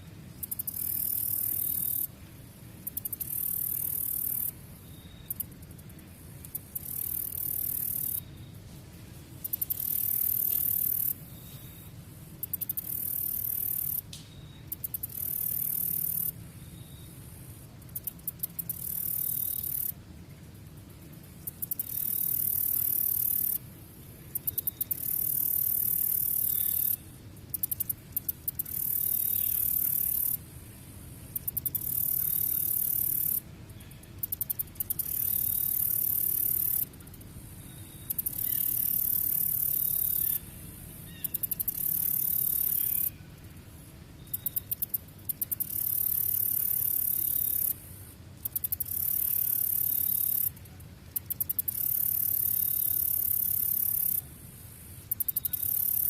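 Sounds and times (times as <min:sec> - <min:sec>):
cricket trilling: 0:00.3 - 0:02.1, 0:02.8 - 0:08.6, 0:09.5 - 0:20.0, 0:21.4 - 0:23.7, 0:24.3 - 0:43.4, 0:44.2 - 0:50.6, 0:51.2 - 0:56.0.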